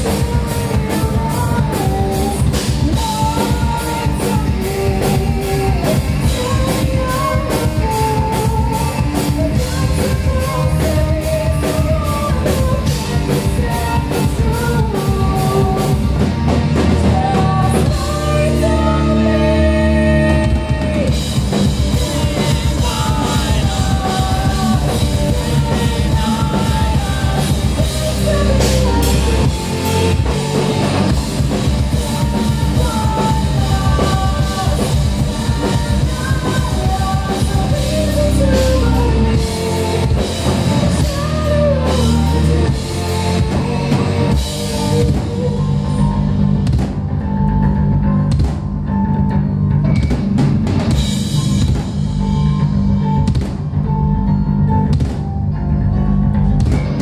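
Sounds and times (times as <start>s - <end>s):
woman singing: 0.0s - 46.4s
rock band playing: 0.0s - 57.0s.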